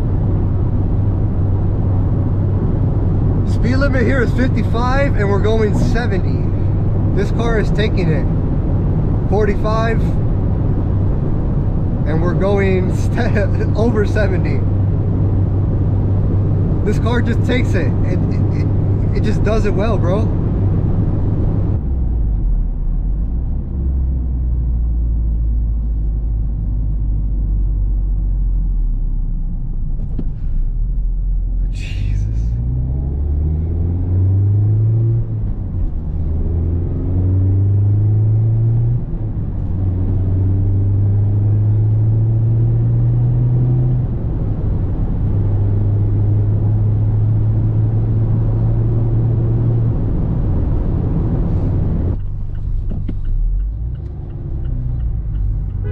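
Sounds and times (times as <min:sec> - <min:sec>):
car engine: 0:00.0 - 0:55.9
road noise: 0:00.0 - 0:55.9.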